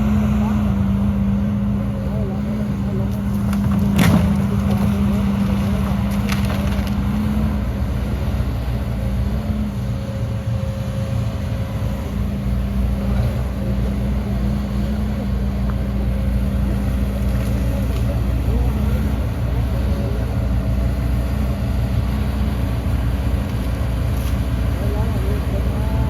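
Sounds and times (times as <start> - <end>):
heavy diesel engine under load: 0.0 - 26.0.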